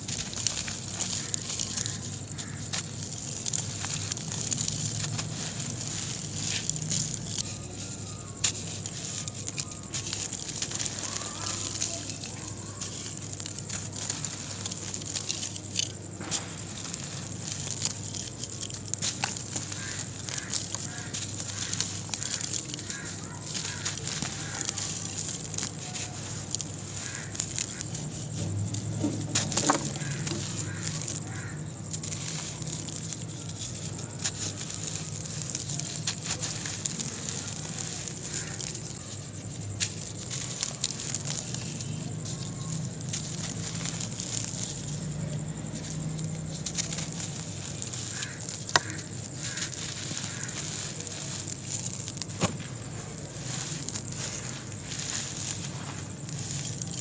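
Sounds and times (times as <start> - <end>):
gritty crunching of cement lumps: 0.0 - 57.0
powder pouring hiss: 0.0 - 57.0.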